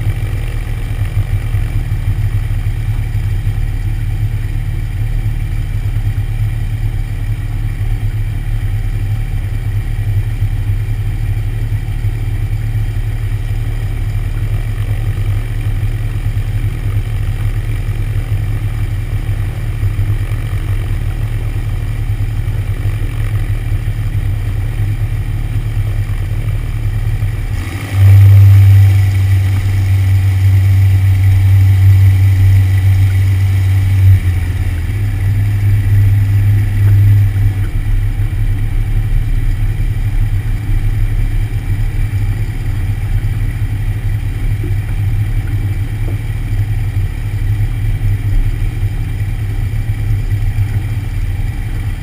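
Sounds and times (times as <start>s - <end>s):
light airplane engine droning: 0.0s - 52.0s.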